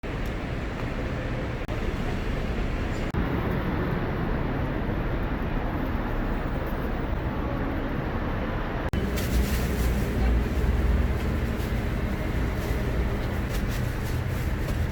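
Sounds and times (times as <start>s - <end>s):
street traffic noise: 0.0s - 14.9s.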